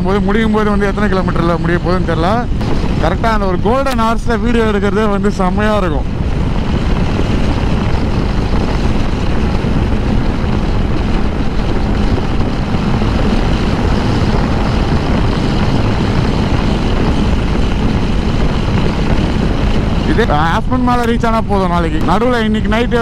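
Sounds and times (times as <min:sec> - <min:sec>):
motorcycle engine cruising: 0:00.0 - 0:23.0
wind rush on microphone: 0:00.0 - 0:23.0.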